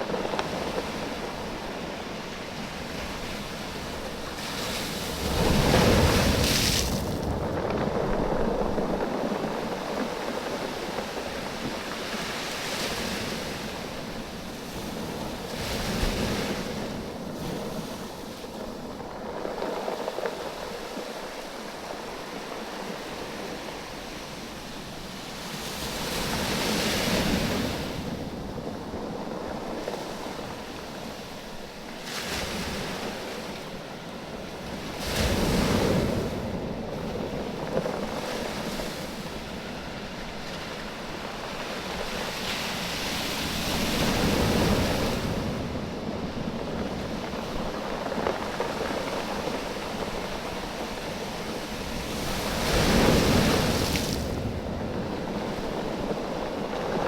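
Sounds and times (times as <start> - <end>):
waves surging on a beach: 0.0 - 57.0.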